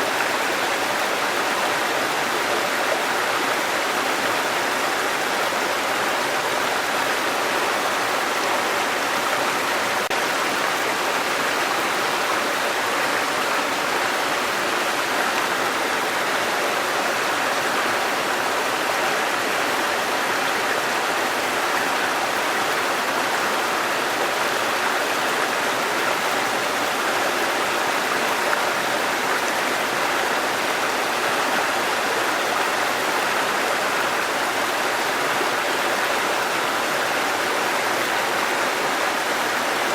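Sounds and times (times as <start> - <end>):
waterfall and rushing stream: 0.0 - 39.9.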